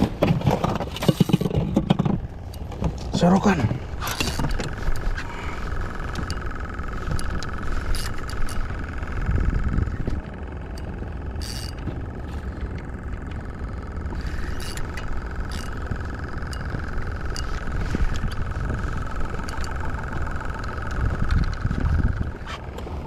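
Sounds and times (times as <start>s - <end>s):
wind rumble on microphone: 3.7s - 11.3s, 12.0s - 23.0s
fishing reel whirring: 4.0s - 22.6s
reel clicks: 4.0s - 22.9s.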